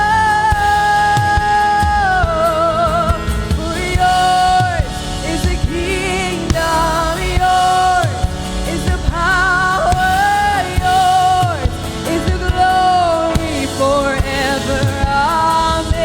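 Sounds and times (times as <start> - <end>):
band playing worship music: 0.0 - 16.0
drum hits: 0.0 - 16.0
person singing long notes: 0.0 - 16.0.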